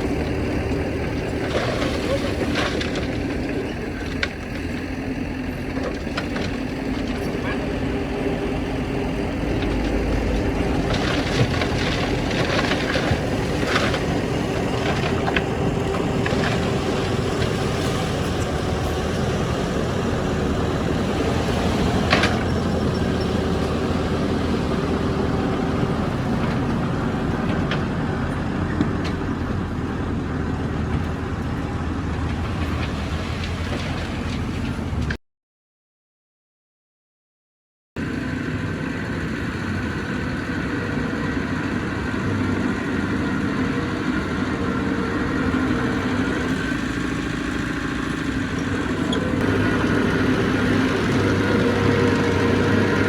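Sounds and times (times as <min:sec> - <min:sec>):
heavy diesel machinery running: 0:00.0 - 0:35.2, 0:38.0 - 0:53.0.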